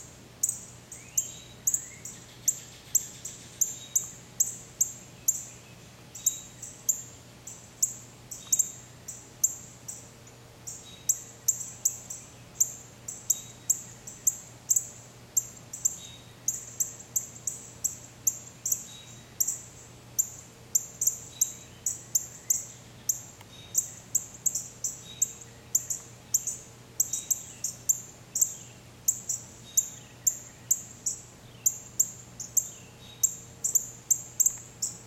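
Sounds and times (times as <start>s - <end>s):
small bird chipping: 0.4s - 35.0s.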